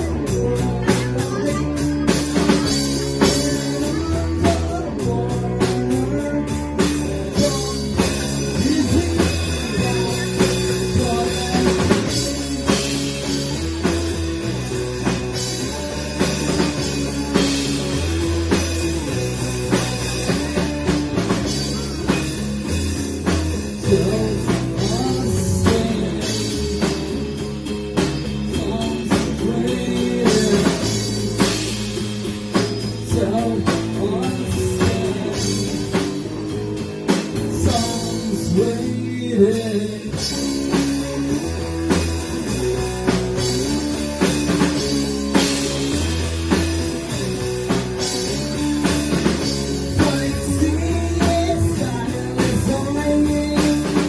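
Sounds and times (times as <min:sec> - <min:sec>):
bass line: 0:00.0 - 0:54.0
drum kit: 0:00.0 - 0:54.0
guitar: 0:00.0 - 0:54.0.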